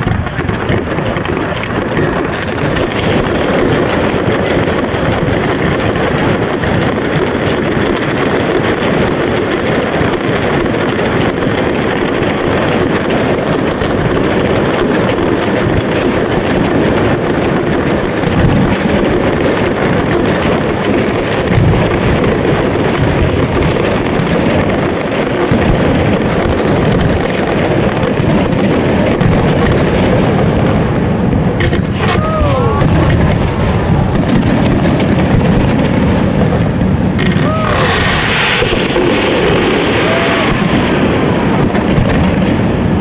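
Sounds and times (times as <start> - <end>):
fireworks barrage: 0.0 - 43.0.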